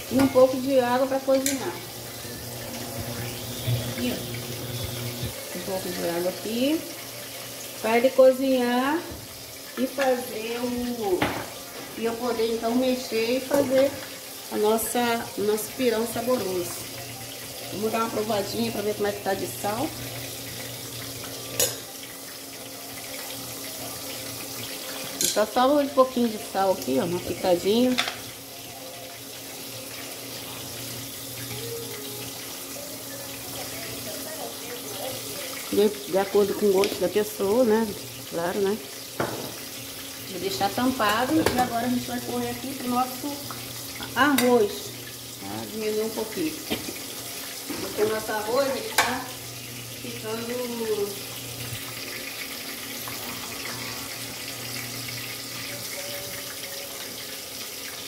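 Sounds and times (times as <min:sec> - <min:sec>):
fish sizzling in hot oil: 0:00.0 - 0:58.0.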